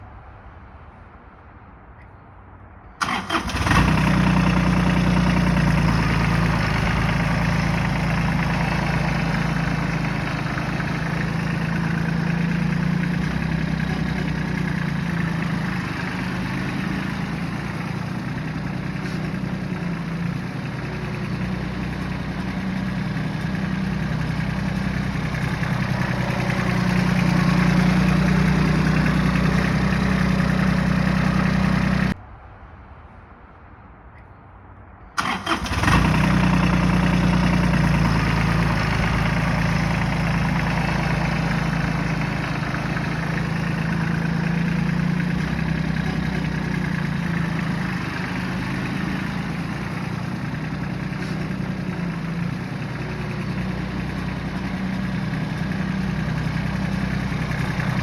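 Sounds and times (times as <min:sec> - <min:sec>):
tractor diesel engine running: 0:03.0 - 0:32.2, 0:35.2 - 0:58.0.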